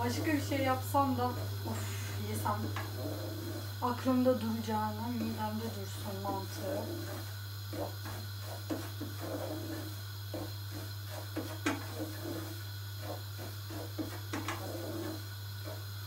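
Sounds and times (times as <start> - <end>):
steady low hum: 0.0 - 16.0
wooden spoon scraping a pot: 0.0 - 16.0.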